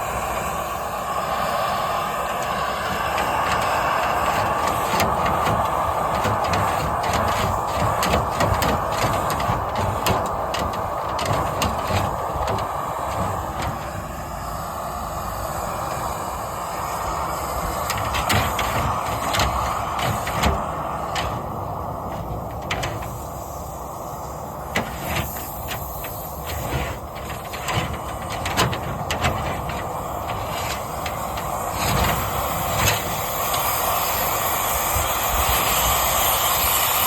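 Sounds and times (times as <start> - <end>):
sharp knocks and rattles: 2.3 - 14.7, 16.8 - 36.7
cleaning equipment rushing noise: 2.3 - 37.0.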